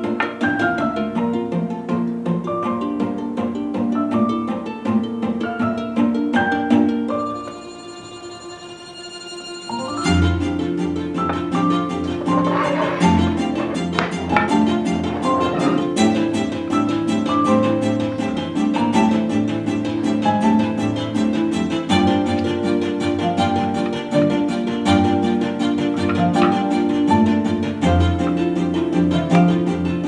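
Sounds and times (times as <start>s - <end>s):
plucked and bowed strings music: 0.0s - 30.0s.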